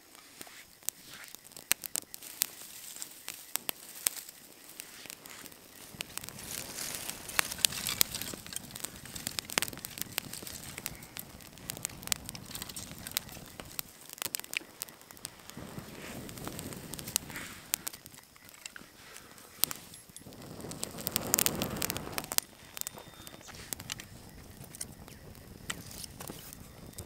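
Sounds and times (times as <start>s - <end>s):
hiss of flame: 0.0s - 27.0s
sticks laid on fire: 0.0s - 27.0s
twigs crackling and popping: 0.0s - 27.0s.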